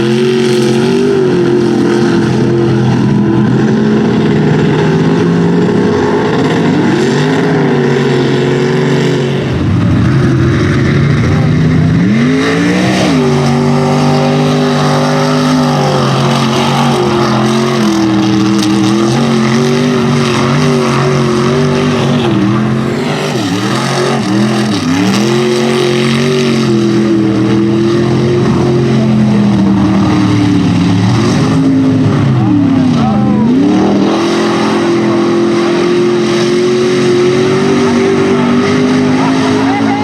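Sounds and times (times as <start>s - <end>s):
truck engine at high revs: 0.0s - 40.0s.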